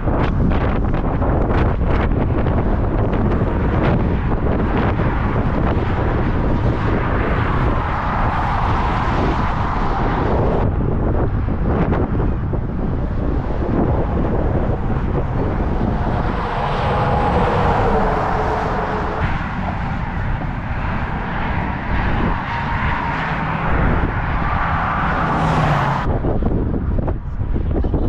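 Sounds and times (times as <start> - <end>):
rushing sound with humming tone: 0.0 - 28.0
strong wind buffeting microphone: 0.0 - 28.0.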